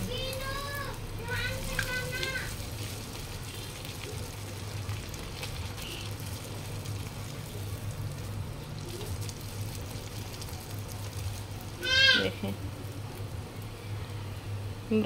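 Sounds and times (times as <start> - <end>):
bread frying in hot oil: 0.0 - 15.0
low steady hum: 0.0 - 15.0.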